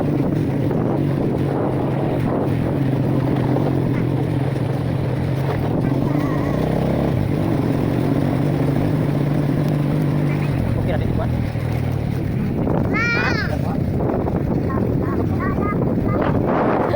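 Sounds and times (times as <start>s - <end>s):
engine humming steadily: 0.0s - 16.9s.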